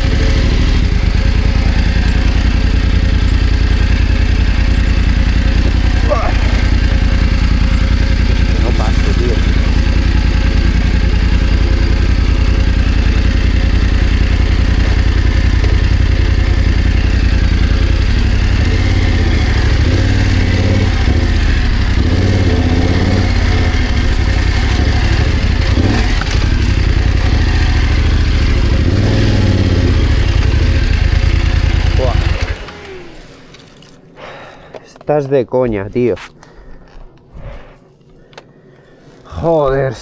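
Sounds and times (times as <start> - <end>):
motorcycle engine revving: 0.0 - 34.1.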